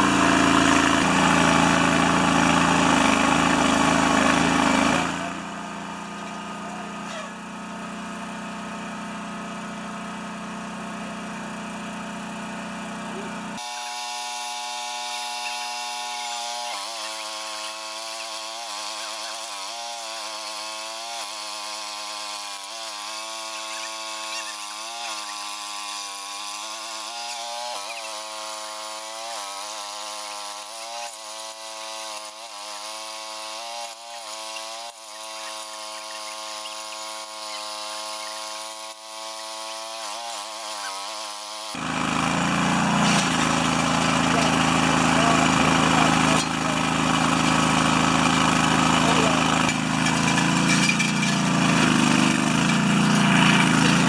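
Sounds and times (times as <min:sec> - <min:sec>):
loud deep engine noise: 0:00.0 - 0:29.0, 0:32.3 - 0:54.0
small engine running under load: 0:00.0 - 0:54.0.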